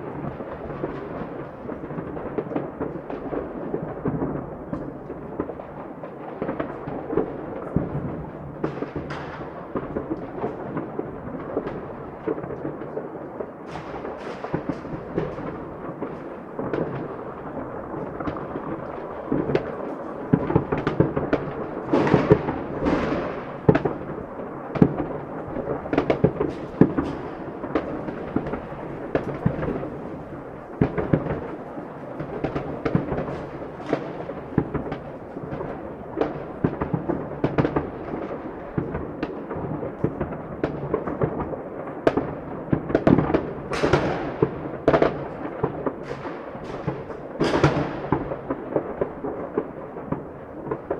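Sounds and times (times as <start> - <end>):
fireworks booming: 0.0 - 50.9
fireworks crackling pops: 0.0 - 50.9.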